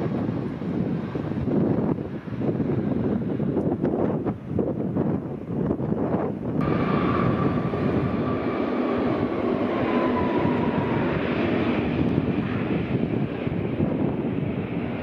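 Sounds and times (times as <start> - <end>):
jet engines roaring with whine: 0.0 - 15.0
wind noise on microphone: 0.0 - 15.0.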